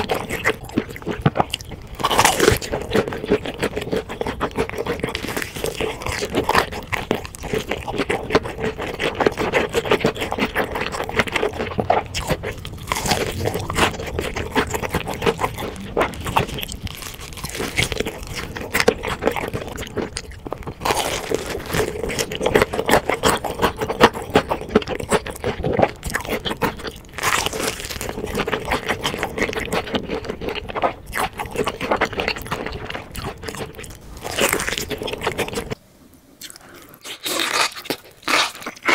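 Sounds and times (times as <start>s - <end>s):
crunching fried chicken: 0.0s - 35.8s, 36.4s - 38.9s.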